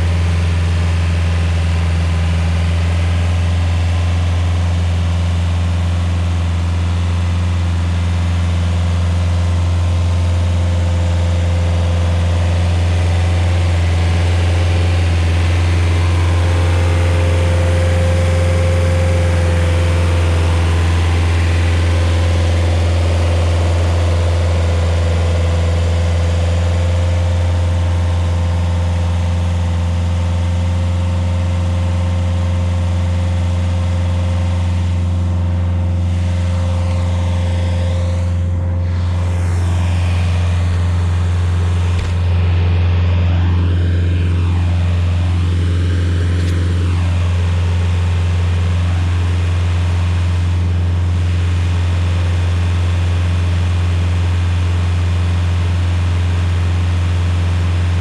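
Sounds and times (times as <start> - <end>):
stump grinder engine humming: 0.0 - 58.0.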